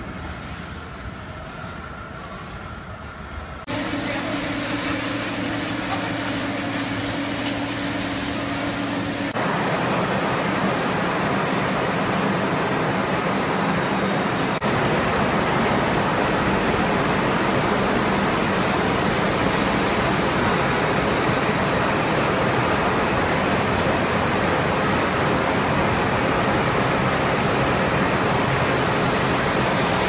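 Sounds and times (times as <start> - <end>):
factory machine tools running: 0.0 - 30.0.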